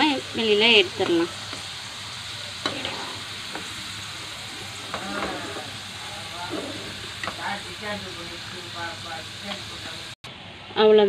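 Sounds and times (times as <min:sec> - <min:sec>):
batter deep-frying in hot oil: 0:00.0 - 0:11.0.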